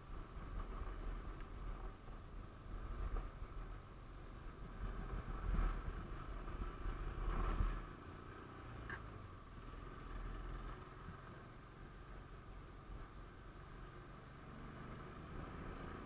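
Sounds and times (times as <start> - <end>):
low rumbling noise: 0.0 - 16.0
motorcycle engine drone: 0.0 - 16.0.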